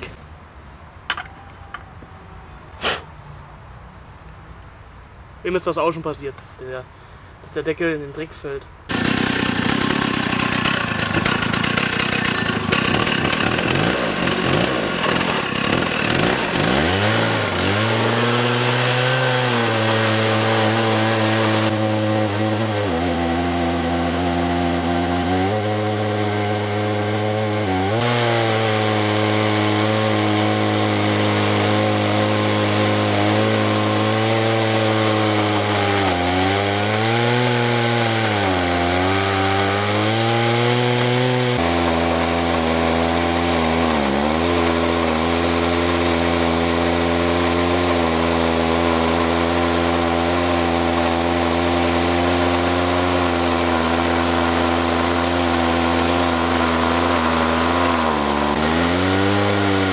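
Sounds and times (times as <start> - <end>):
chainsaw cutting through log: 8.9 - 59.9.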